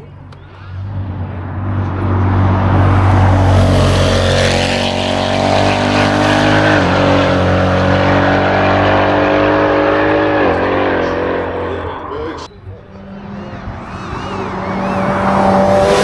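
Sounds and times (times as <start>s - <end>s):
racing car engine at high revs: 0.3s - 16.0s.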